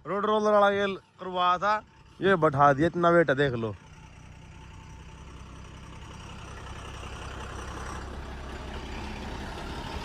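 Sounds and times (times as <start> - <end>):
heavy vehicle engine humming: 0.0 - 10.0.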